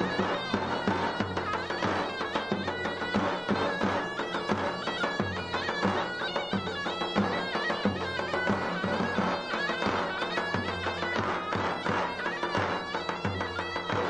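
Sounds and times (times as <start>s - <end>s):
reed pipe playing dance tune: 0.0s - 14.0s.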